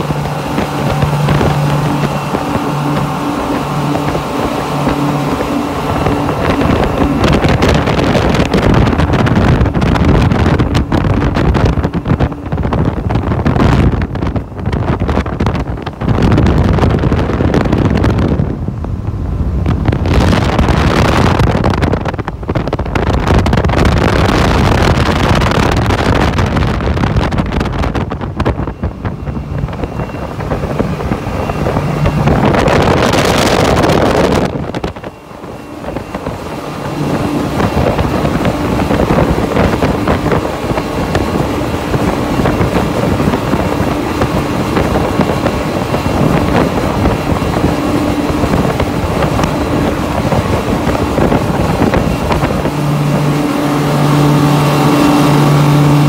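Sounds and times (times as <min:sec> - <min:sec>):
outboard engines running: 0:00.0 - 0:56.0
wind buffeting microphone: 0:00.0 - 0:56.0.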